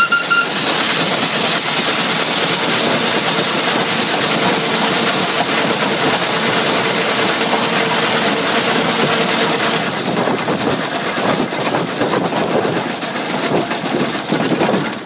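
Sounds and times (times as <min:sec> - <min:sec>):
steam engine exhaust beats: 0:00.0 - 0:15.0.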